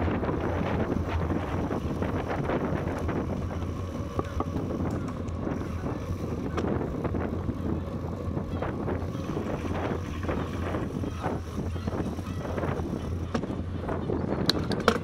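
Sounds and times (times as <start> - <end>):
bicycle ride rumble: 0.0 - 15.0
wind rushing over microphone: 0.0 - 15.0.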